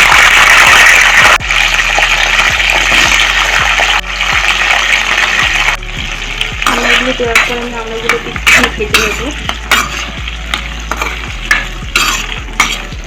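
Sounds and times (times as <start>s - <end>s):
fruit sizzling in hot oil: 0.0s - 13.0s.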